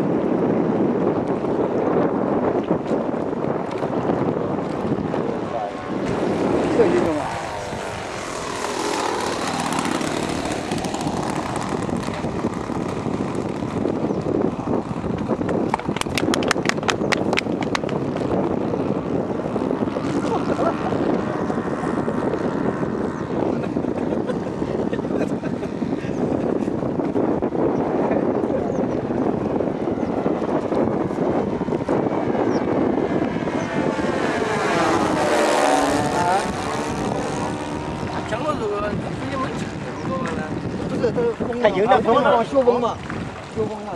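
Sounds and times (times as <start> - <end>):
model plane propeller motors: 1.4 - 43.9.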